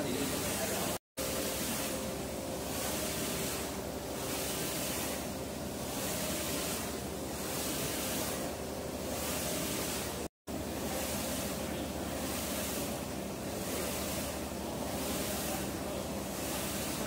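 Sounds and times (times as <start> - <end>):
inkjet printer running: 0.0 - 17.0
print carriage hissing: 0.0 - 17.0.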